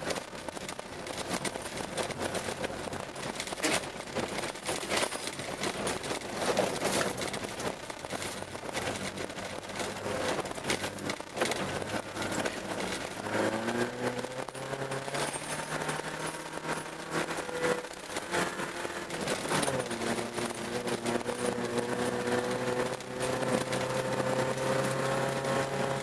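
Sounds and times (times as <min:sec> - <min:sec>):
car engine and tyre noise: 0:00.0 - 0:26.0.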